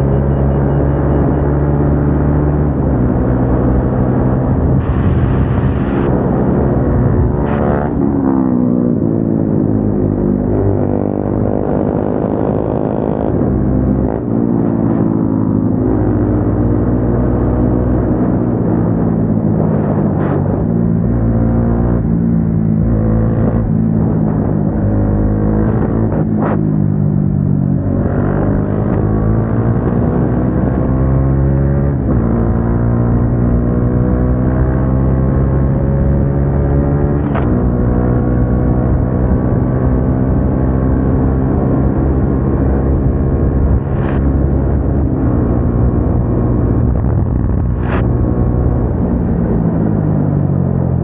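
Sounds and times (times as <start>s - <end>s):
motorcycle engine accelerating: 0.0s - 51.0s.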